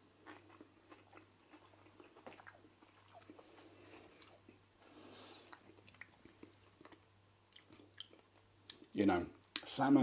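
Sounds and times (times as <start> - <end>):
low steady hum: 0.0 - 10.0
chewing food: 0.2 - 4.6, 5.3 - 9.0.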